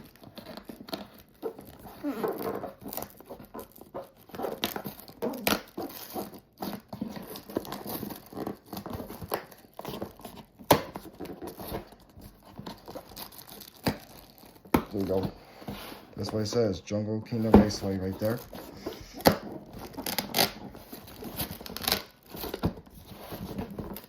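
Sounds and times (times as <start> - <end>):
cardboard tearing and crinkling: 0.0 - 24.0.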